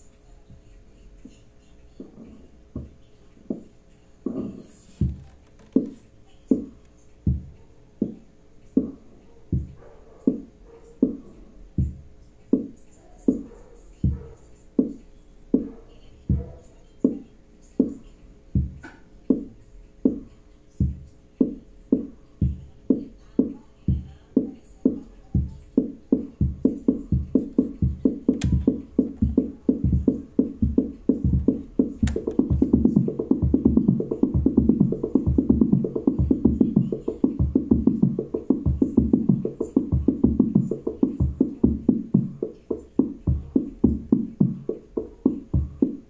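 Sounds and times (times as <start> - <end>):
faint organ hum: 0.0 - 46.0
electronic drum pattern: 2.0 - 3.7, 4.3 - 8.2, 8.8 - 17.2, 17.8 - 46.0.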